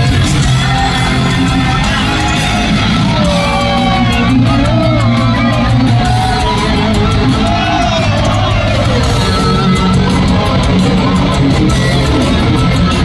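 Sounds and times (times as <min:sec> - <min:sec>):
crowd noise: 0:00.0 - 0:13.0
metal band playing: 0:00.0 - 0:13.0.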